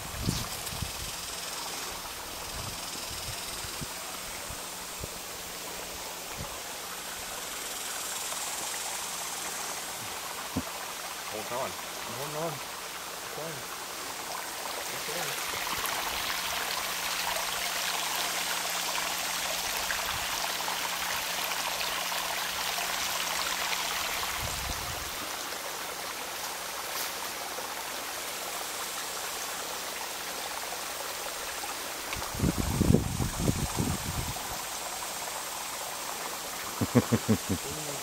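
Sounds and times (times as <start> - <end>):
water running over rocks: 0.0 - 38.0.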